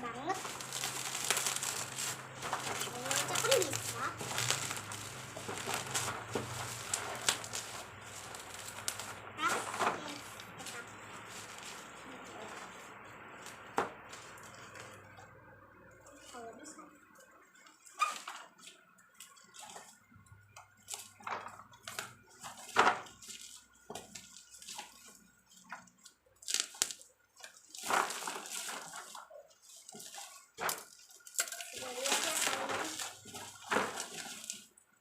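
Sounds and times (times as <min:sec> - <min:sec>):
packaging rustling and crinkling: 0:00.0 - 0:15.2, 0:17.6 - 0:35.0.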